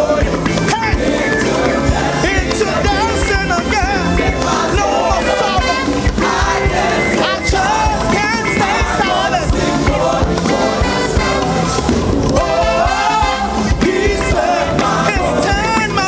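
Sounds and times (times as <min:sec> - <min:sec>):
gospel choir singing: 0:00.0 - 0:16.0
live band with drums: 0:00.0 - 0:16.0.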